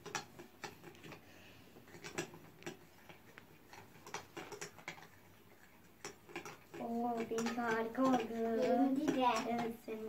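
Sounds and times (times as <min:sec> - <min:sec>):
utensils clicking against bowls: 0:00.0 - 0:10.0.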